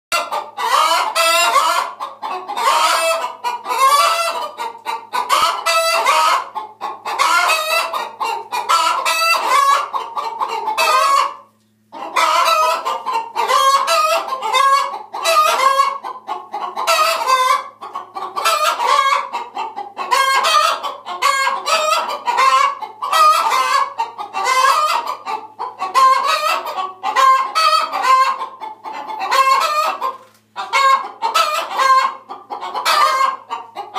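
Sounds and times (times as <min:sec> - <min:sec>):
chickens clucking and squawking: 0:00.1 - 0:33.9.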